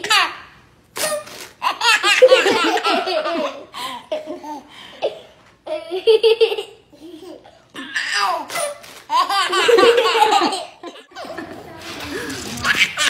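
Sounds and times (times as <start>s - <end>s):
baby laughing: 0.0s - 4.7s, 5.7s - 13.0s.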